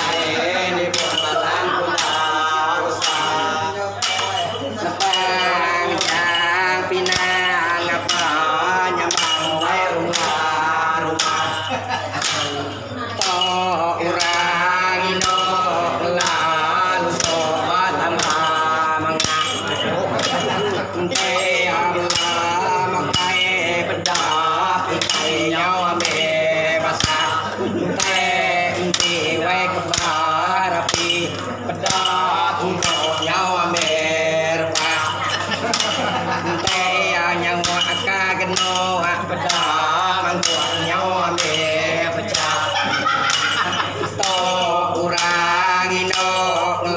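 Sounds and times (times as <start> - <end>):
people chanting in wavering sung lines: 0.0 - 46.9.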